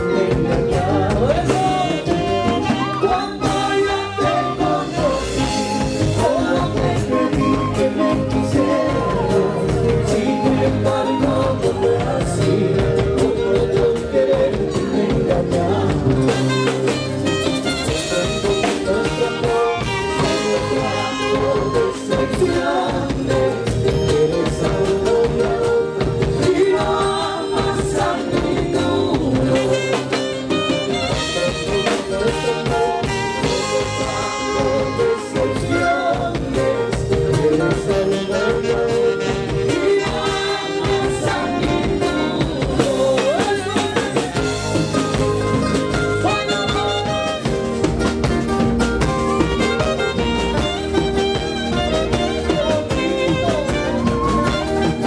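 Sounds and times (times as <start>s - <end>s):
live band music: 0.0s - 55.0s
bamboo flute melody: 1.6s - 13.4s, 16.4s - 27.4s, 29.5s - 55.0s.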